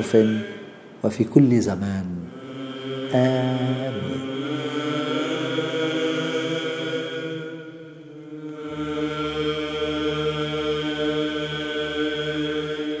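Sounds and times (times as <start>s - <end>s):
steady drone: 0.0s - 1.3s, 2.1s - 13.0s
slow chanting: 0.0s - 13.0s.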